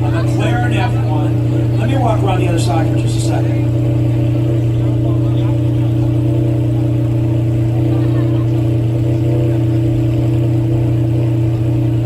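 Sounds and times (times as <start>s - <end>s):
engine humming: 0.0s - 12.0s
faint voices: 0.0s - 12.0s.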